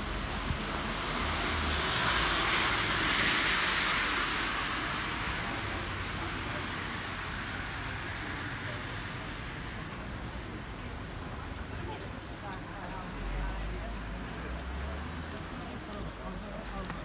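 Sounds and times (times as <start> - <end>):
low traffic rumble: 0.0 - 17.0
tyres hissing on wet road: 0.0 - 17.0.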